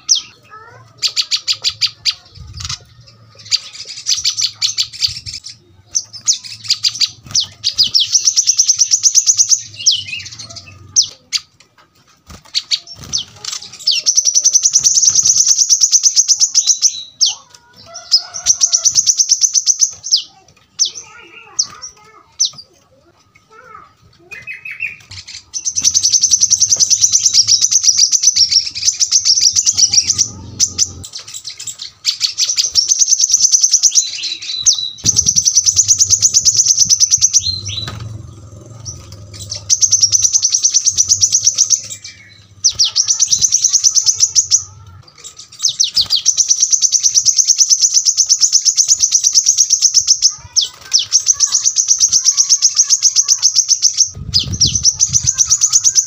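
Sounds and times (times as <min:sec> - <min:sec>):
bird singing rapid trills: 0:00.0 - 0:11.6, 0:12.2 - 0:22.6, 0:23.5 - 0:56.0.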